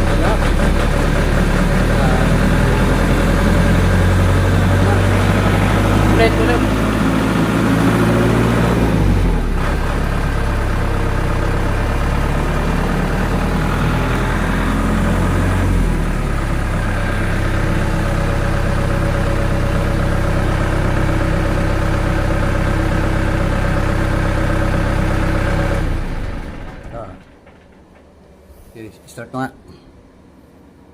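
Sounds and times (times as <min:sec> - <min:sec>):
generator engine running: 0:00.0 - 0:29.2.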